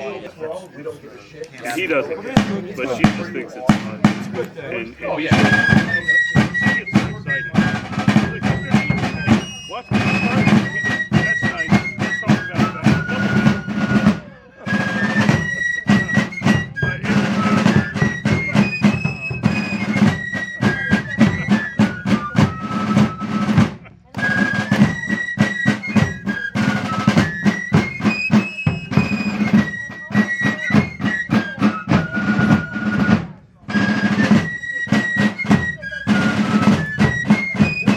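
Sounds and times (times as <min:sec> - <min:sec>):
fife melody: 0:01.6 - 0:37.9
snare drum rolls: 0:01.7 - 0:37.9.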